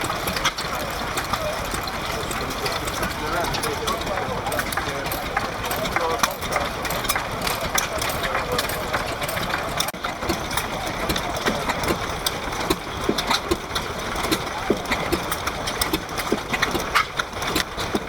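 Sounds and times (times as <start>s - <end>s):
stationary engines clattering: 0.0s - 18.0s.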